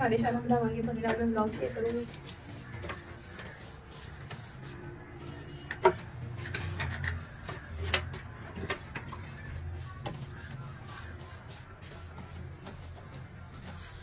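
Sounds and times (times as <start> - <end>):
hand scraping wet plaster: 1.0 - 14.0.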